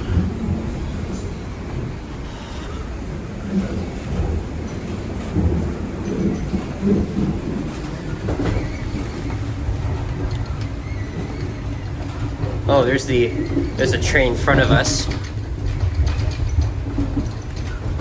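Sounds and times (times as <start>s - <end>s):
subway train rumble: 0.0s - 18.0s
wheels knocking and clattering: 3.5s - 18.0s.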